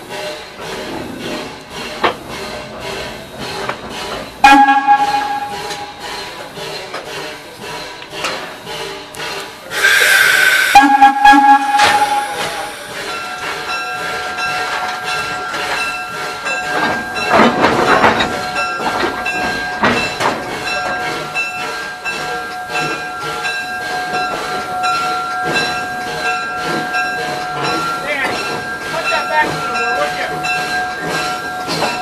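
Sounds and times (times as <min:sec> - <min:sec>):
rail wheels clicking: 0:00.0 - 0:32.0.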